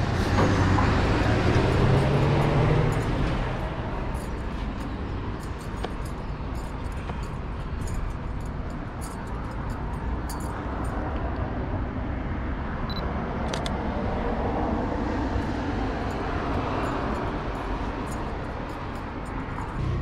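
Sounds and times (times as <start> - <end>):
car passing: 0.0 - 9.2, 10.8 - 20.0
street traffic noise: 0.0 - 20.0.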